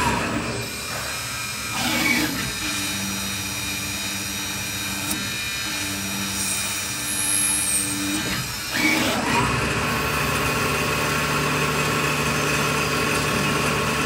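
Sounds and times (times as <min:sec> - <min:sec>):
lathe mechanical whine: 0:00.0 - 0:14.0.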